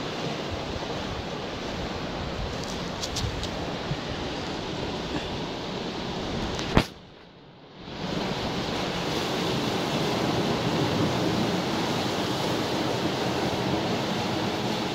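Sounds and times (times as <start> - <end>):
sea surf on rocky shore: 0.0 - 14.9.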